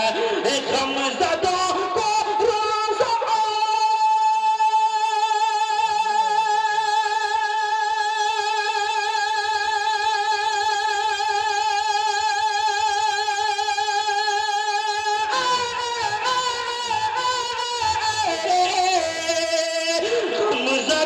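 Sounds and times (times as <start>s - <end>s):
man singing a sustained note: 0.0s - 21.0s.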